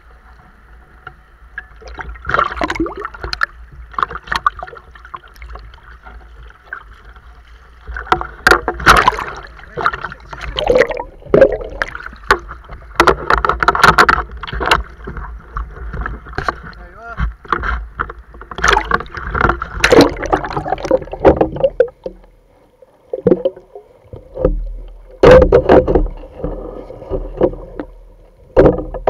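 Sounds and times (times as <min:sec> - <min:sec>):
water sloshing and splashing: 0:00.3 - 0:29.0.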